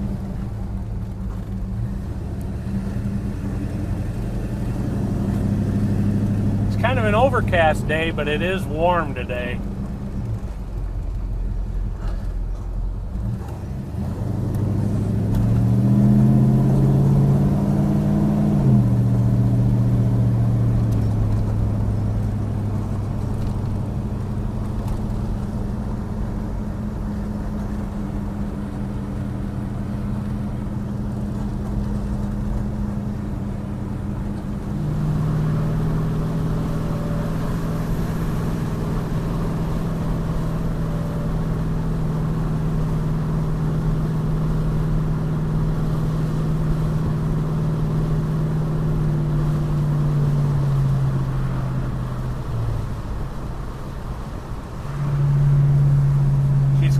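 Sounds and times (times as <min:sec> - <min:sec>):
car engine droning: 0:00.0 - 0:56.9
road noise: 0:00.0 - 0:56.9.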